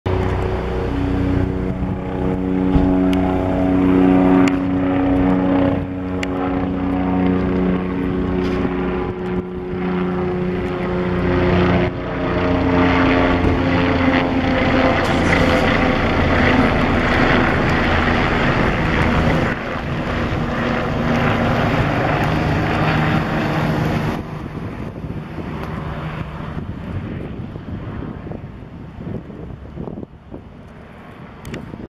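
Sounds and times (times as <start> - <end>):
helicopter flying by: 0.1 - 31.9.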